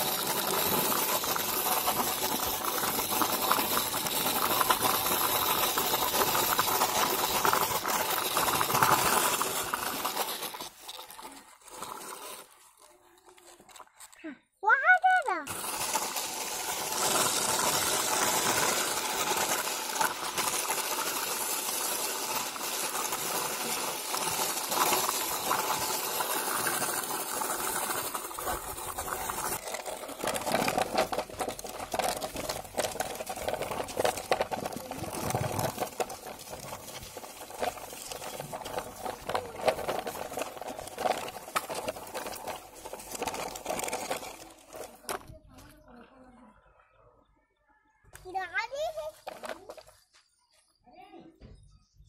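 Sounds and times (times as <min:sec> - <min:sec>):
toy truck wheels rolling over dirt: 0:00.0 - 0:46.7, 0:48.1 - 0:50.8.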